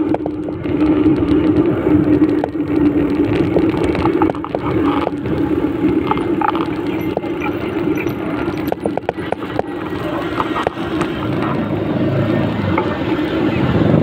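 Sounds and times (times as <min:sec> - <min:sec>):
vehicle hum and road rumble: 0:00.0 - 0:14.0.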